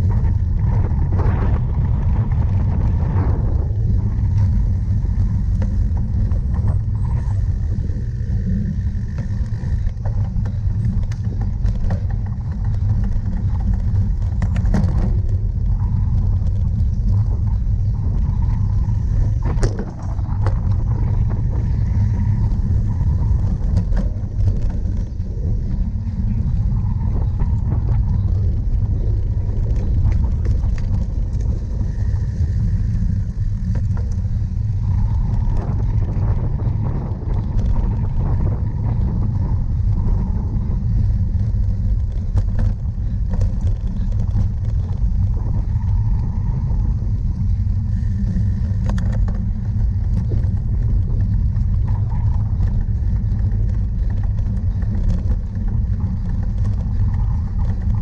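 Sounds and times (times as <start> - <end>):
bicycle clicks and rattles: 0.0 - 58.0
bicycle rumbling over rough ground: 0.0 - 58.0.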